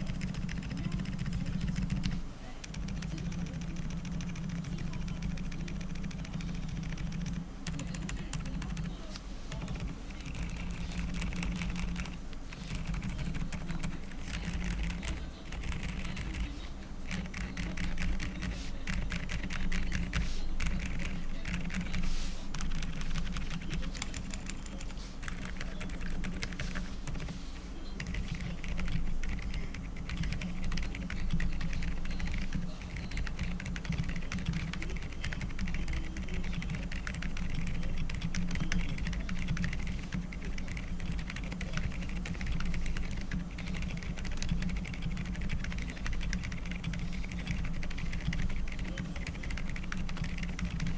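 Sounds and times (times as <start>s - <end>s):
fast typing on mechanical keyboard: 0.0s - 50.9s.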